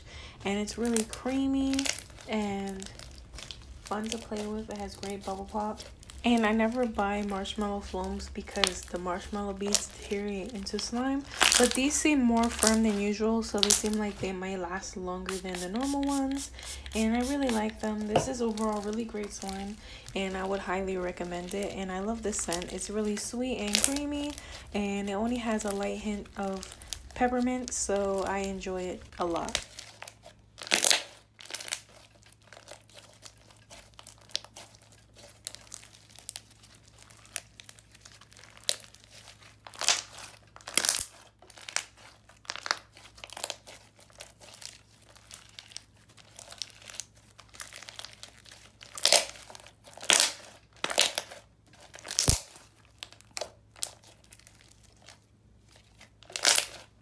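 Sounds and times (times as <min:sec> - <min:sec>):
slime squishing with sticky crackles: 0:00.0 - 0:57.0.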